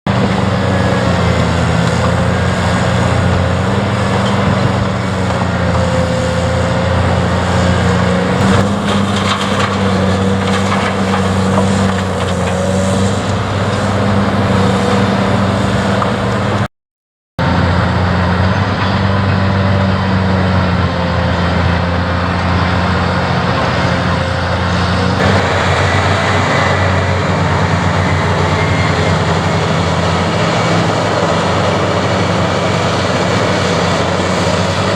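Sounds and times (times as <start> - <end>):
heavy diesel engine running: 0.1 - 16.7, 17.4 - 34.9.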